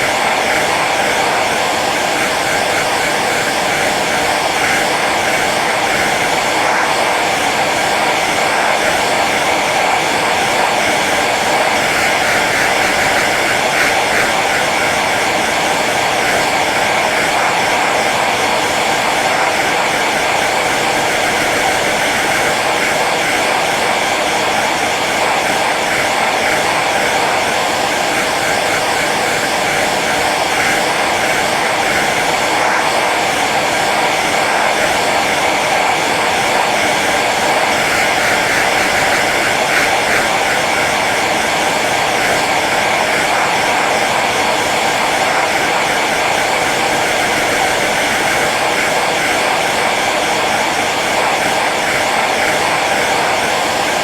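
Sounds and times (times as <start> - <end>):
hair dryer blowing hum: 0.0 - 54.0.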